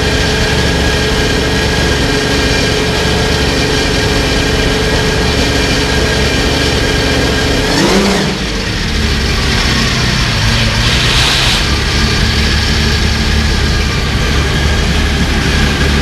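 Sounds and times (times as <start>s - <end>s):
racing engine idling: 0.0s - 16.0s.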